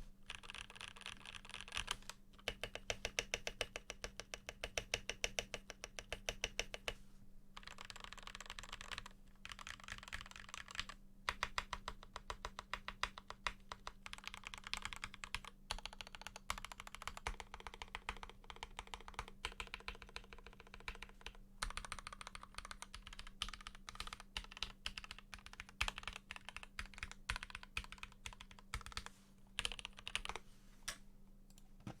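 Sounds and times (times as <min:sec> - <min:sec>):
faint steady hum: 0:00.0 - 0:32.0
mechanical keyboard typing: 0:00.3 - 0:06.9, 0:07.6 - 0:30.4.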